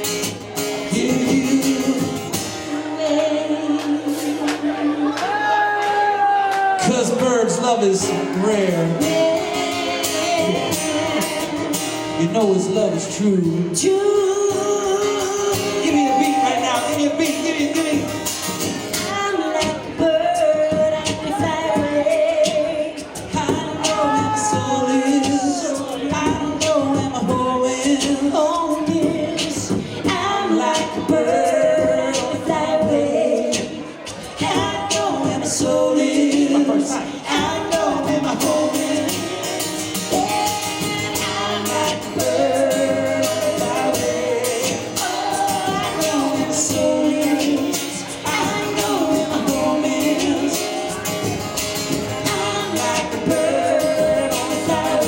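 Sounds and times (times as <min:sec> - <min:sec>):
person singing: 0:00.0 - 0:55.0.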